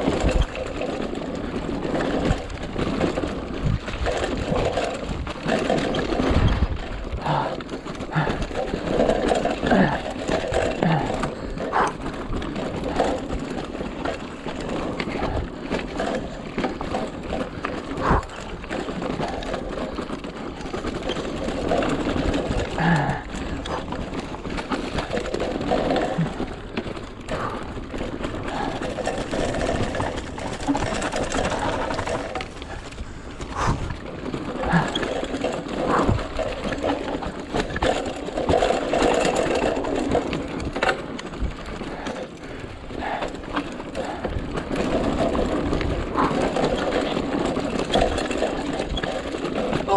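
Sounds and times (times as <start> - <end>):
bike chain and frame rattling: 0.0 - 49.9
bike knocking over rocks: 0.0 - 49.9.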